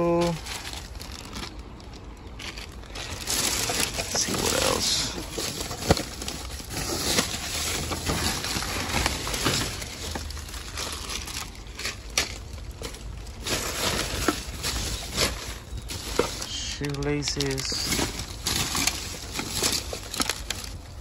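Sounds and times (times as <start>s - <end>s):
plastic packaging rustling: 0.0s - 21.0s.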